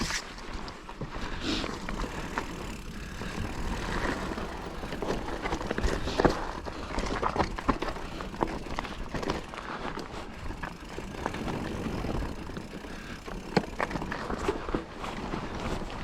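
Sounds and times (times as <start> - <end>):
bike knocking and rattling: 0.0 - 16.0
constant low rumble: 0.0 - 16.0
tyres crunching over dirt: 0.0 - 16.0.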